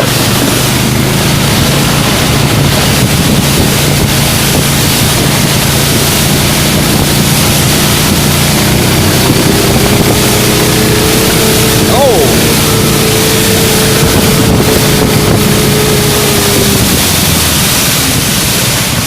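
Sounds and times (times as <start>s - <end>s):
snowmobile engine running: 0.0s - 19.0s
wind buffeting microphone: 0.0s - 19.0s.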